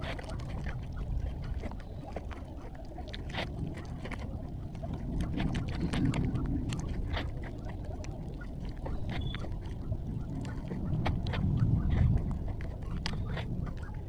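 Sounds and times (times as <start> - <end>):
crunching crackles and snaps: 0.0 - 14.0.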